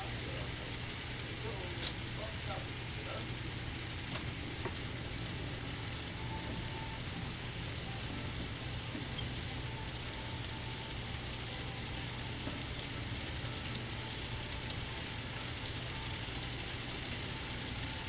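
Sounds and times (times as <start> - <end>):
model locomotive hum: 0.0 - 18.0.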